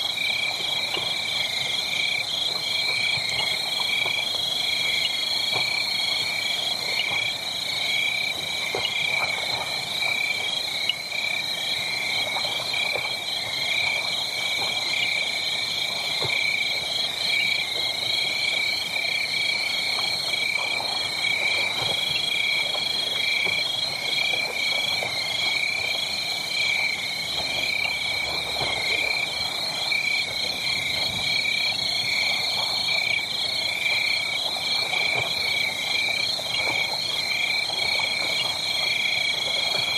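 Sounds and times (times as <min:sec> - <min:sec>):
faint crackles: 0:00.0 - 0:39.9.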